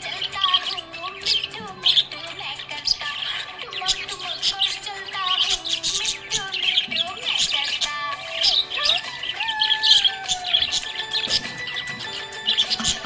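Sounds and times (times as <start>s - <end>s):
budgerigars chirping and warbling: 0.0s - 13.0s
music playing: 0.0s - 13.0s.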